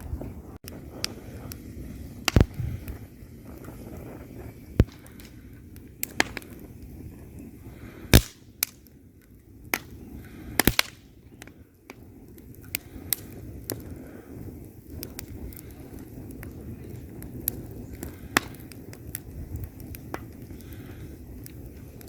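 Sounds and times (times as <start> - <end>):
low burning rumble: 0.0 - 22.0
wood fire pops and snaps: 0.0 - 22.0.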